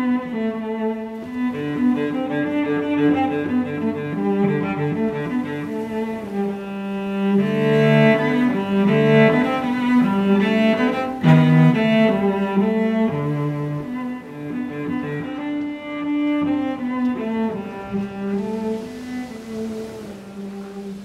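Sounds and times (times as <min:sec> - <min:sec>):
bowed strings music: 0:00.0 - 0:21.0.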